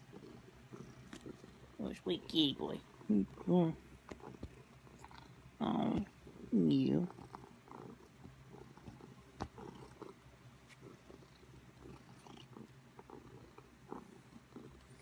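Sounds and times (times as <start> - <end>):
soft rustling crackles: 0.0 - 12.8
cat purring: 0.0 - 15.0.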